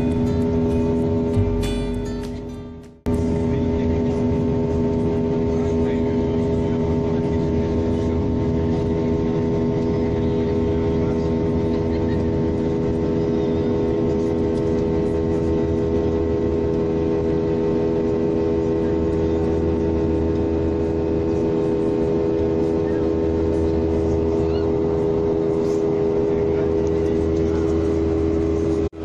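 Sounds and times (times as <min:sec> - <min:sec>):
airliner engines droning: 0:00.0 - 0:29.0.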